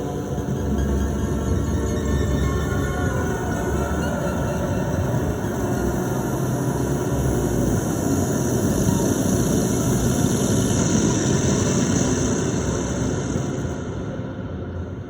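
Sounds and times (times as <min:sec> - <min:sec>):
grainy synthesizer noise drone: 0:00.0 - 0:15.0.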